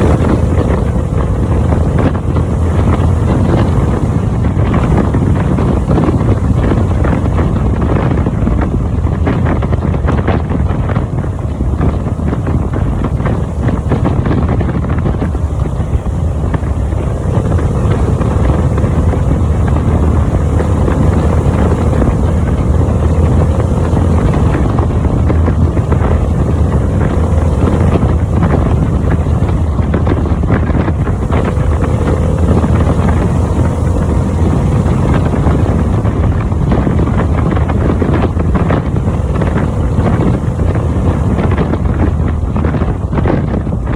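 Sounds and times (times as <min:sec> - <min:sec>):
motorcycle engine drone: 0:00.0 - 0:43.9
wind buffeting microphone: 0:00.0 - 0:43.9.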